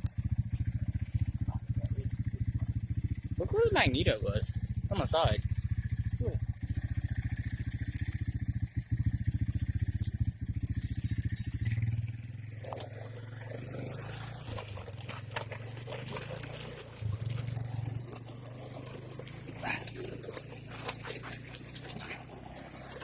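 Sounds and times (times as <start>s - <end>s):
atv engine idling: 0.0s - 23.0s.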